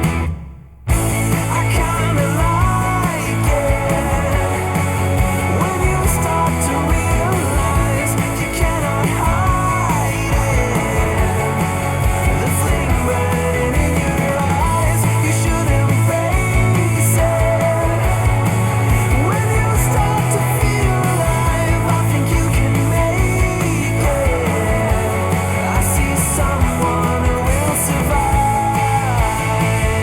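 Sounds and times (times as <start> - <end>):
rock music with guitar: 0.0 - 30.0.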